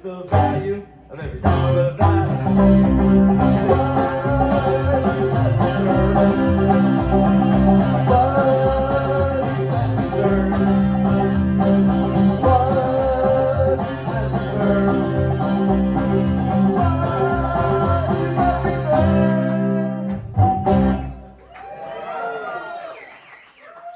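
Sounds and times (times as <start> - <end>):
plucked banjo notes: 0.0 - 21.3
upright bass notes: 0.0 - 21.4.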